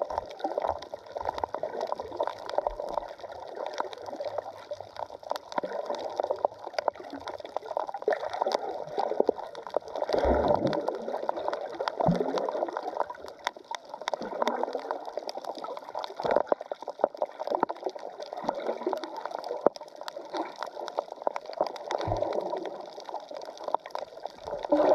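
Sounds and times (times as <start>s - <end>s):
dense crackling clicks: 0.0s - 24.9s
water sloshing underwater: 0.0s - 24.9s.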